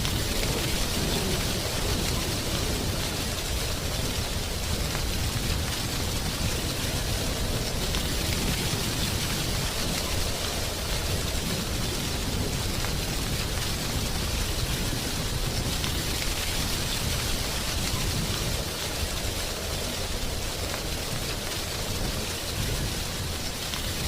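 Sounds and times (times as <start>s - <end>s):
wind rustling tree leaves: 0.0s - 24.0s.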